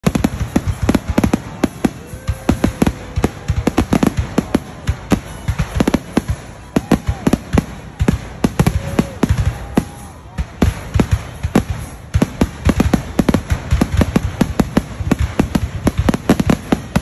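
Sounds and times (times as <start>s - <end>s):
fireworks shells bursting: 0.0s - 17.0s.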